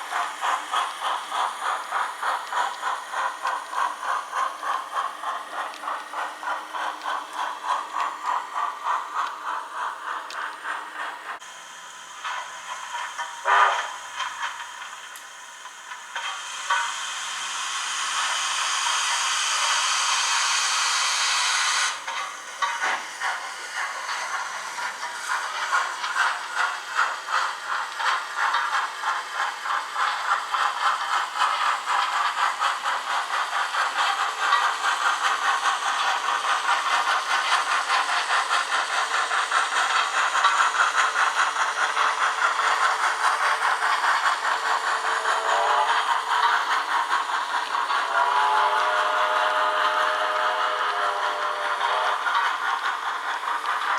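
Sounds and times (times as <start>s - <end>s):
rhythmic steam chuffs: 0.0s - 53.9s
steam hiss: 0.0s - 53.9s.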